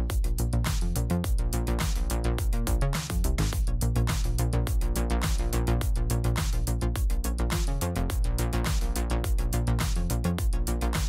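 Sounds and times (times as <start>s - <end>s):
electronic music with drum beat: 0.0s - 11.0s
heavy bass: 0.0s - 11.0s.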